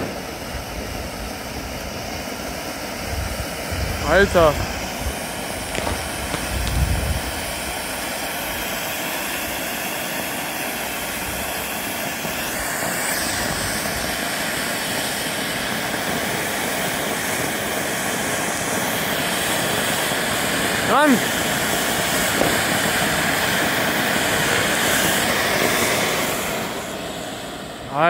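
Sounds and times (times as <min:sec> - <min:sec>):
firework fountain hissing: 0:00.0 - 0:28.0.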